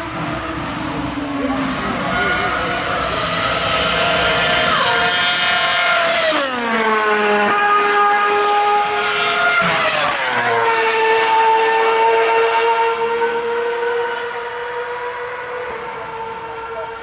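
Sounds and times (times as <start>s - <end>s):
racing cars passing at high revs: 0.0s - 17.0s.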